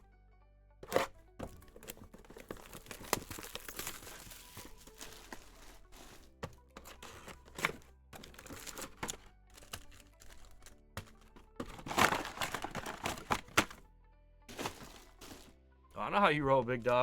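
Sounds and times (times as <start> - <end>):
foil wrapper crinkling and tearing: 0.8 - 13.8, 14.5 - 15.5.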